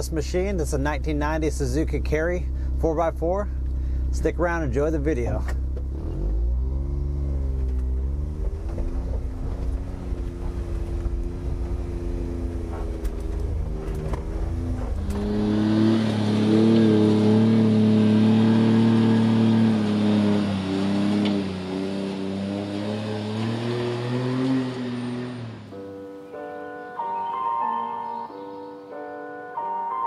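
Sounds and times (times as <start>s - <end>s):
small truck engine driving: 0.0s - 29.9s.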